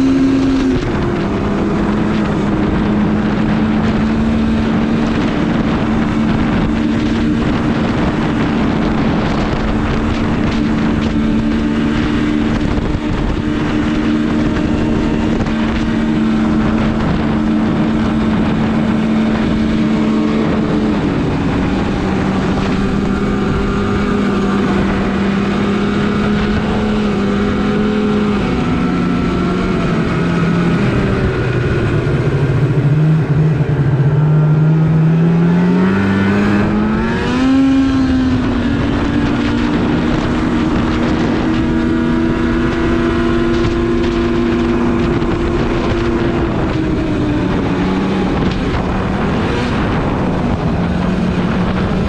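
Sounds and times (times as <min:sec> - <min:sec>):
snowmobile engine running: 0:00.0 - 0:52.0
wind noise on microphone: 0:00.0 - 0:52.0.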